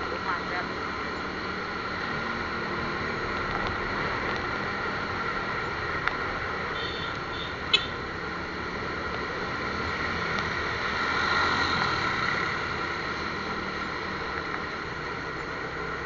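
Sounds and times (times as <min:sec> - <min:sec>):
vehicle and road noise: 0:00.0 - 0:16.0.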